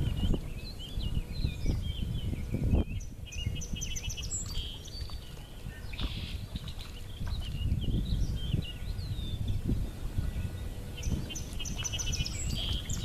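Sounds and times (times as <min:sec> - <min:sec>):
small birds chirping: 0:00.0 - 0:13.0
wind rumbling on microphone: 0:00.0 - 0:13.0.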